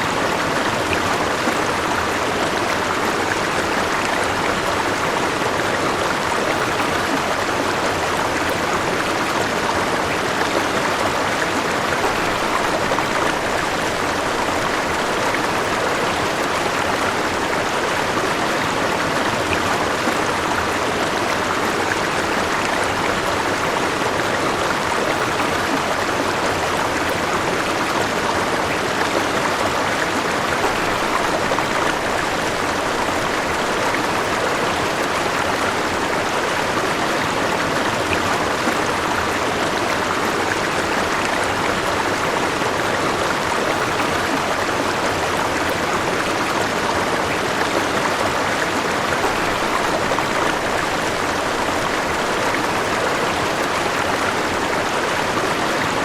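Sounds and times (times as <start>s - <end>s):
river water rushing and babbling: 0.0s - 56.0s.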